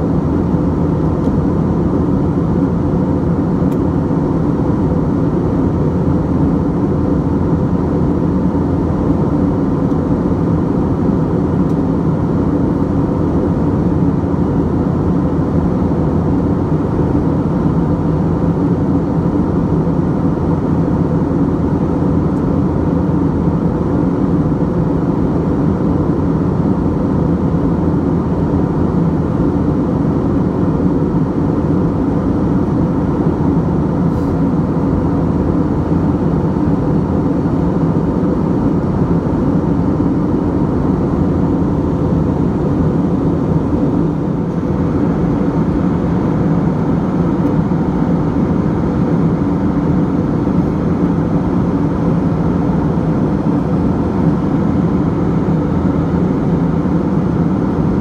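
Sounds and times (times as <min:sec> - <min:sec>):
jet engines humming: 0:00.0 - 0:58.0
rush of air in aircraft cabin: 0:00.0 - 0:58.0.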